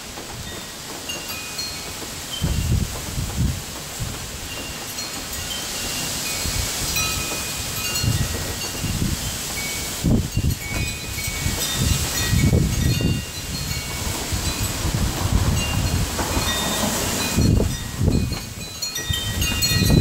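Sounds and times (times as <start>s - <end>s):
wind buffeting microphone: 0.0s - 20.0s
wind chimes ringing: 0.4s - 3.5s, 4.2s - 20.0s.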